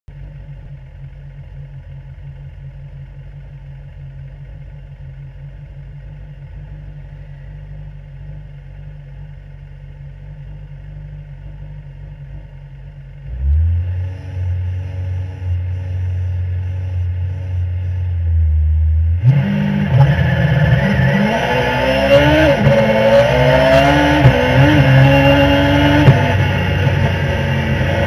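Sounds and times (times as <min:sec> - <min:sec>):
race car engine idling and revving: 0:00.1 - 0:28.0.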